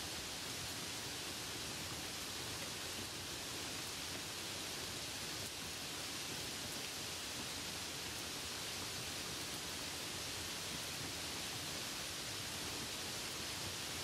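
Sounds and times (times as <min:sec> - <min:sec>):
light rain hiss: 0:00.0 - 0:14.0.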